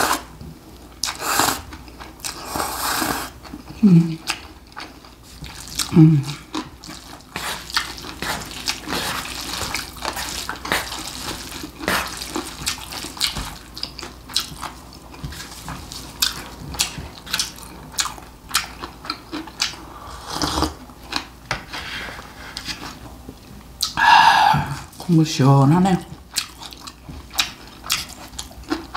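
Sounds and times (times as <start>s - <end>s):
wet slurping and chewing: 1.0s - 23.0s, 26.3s - 28.9s.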